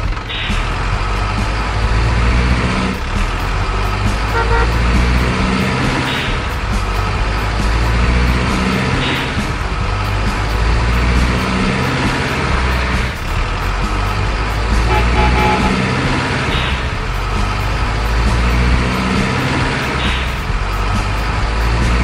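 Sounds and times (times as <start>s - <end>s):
truck engine low drone: 0.0s - 22.0s.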